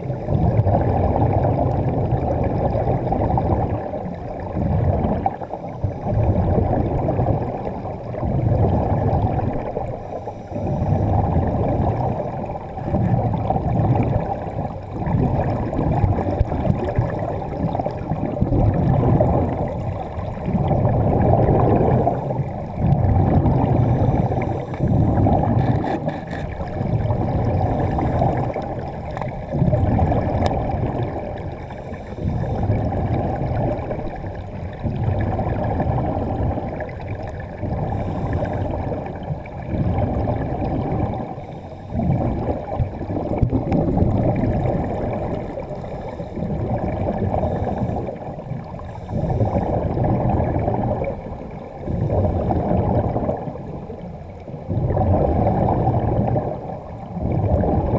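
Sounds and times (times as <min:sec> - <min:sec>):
underwater air bubbles gushing: 0:00.0 - 0:57.9.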